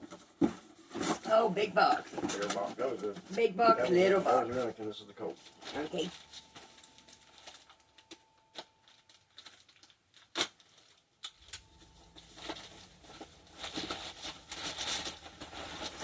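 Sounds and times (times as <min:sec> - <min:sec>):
paper and plastic bags rustling: 0:00.0 - 0:16.0.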